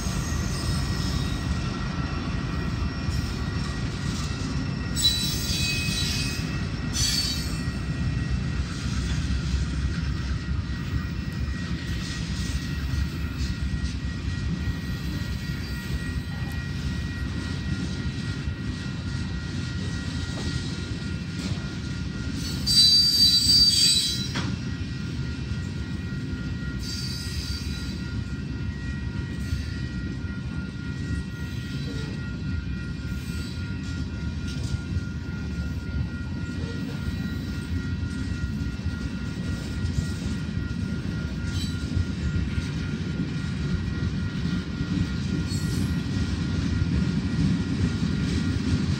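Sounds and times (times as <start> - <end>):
train wheels rumbling on rail: 0.0 - 48.9
train wheels squealing: 0.0 - 48.9.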